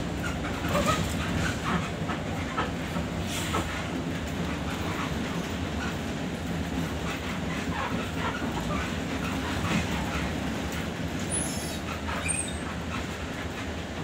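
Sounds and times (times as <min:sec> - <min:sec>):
bus engine running: 0:00.0 - 0:12.6.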